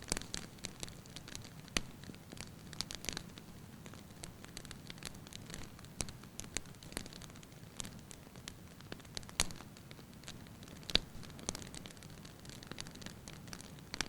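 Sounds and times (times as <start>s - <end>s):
wood fire crackling and hissing: 0.0s - 14.0s.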